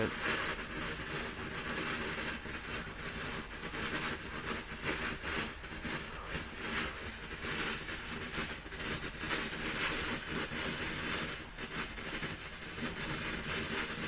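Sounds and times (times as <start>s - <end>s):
firework sparks hissing: 0.0s - 14.0s.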